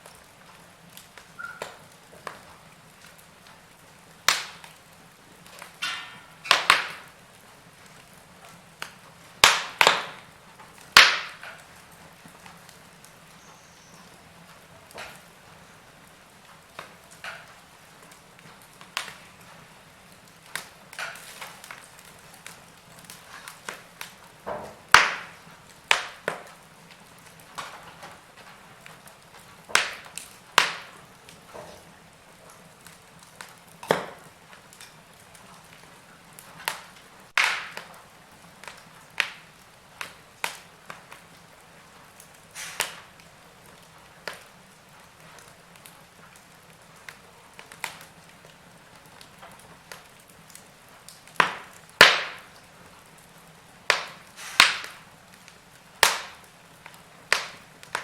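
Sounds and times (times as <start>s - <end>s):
faint steady hiss: 0.0s - 58.0s
wood fire crackling and popping: 0.0s - 58.0s.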